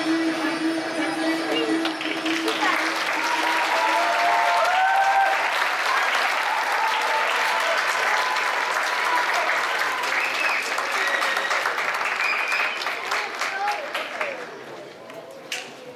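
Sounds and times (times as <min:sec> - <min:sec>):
audience applauding: 0:01.8 - 0:14.7.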